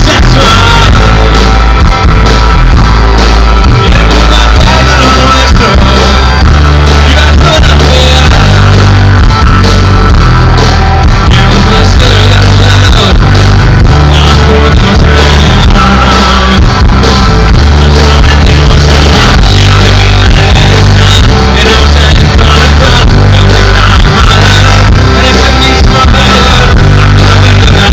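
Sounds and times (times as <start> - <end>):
person singing: 0.0 - 2.2, 3.5 - 9.6, 11.0 - 27.9
rock band playing live: 0.0 - 27.9.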